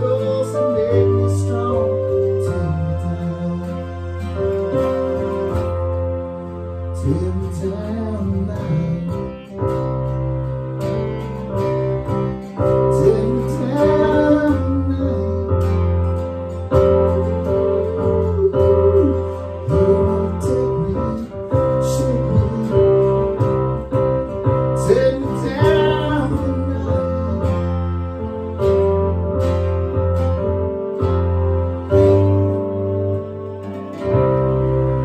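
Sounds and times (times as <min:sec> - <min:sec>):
acoustic guitar: 0:00.0 - 0:35.0
digital piano: 0:00.0 - 0:35.0.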